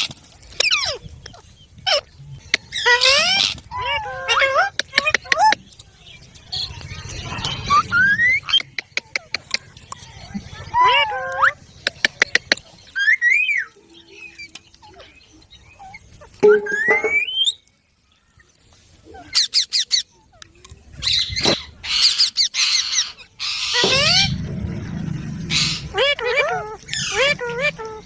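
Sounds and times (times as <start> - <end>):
parakeets squawking and chattering: 0.0 - 17.6, 19.2 - 28.0.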